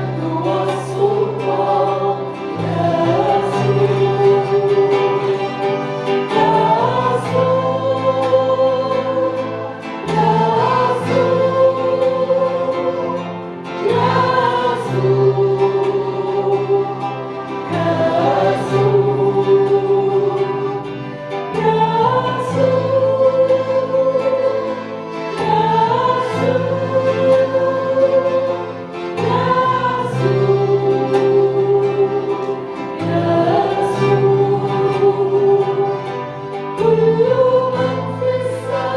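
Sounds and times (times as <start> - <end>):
group singing a hymn: 0.0 - 38.9
instrumental accompaniment: 0.0 - 38.9.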